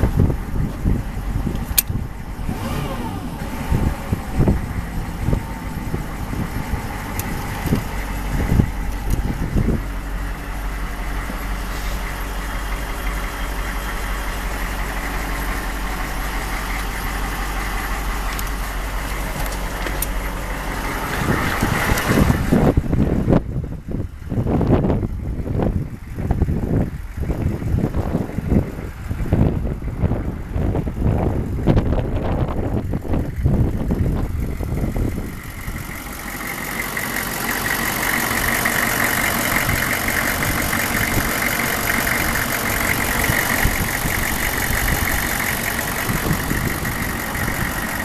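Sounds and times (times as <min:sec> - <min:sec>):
truck engine idling: 0:00.0 - 0:48.0.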